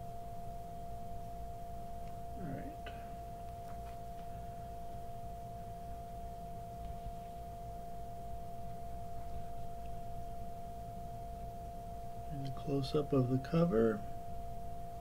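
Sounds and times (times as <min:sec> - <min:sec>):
low hum: 0:00.0 - 0:15.0
steady background tone: 0:00.0 - 0:15.0.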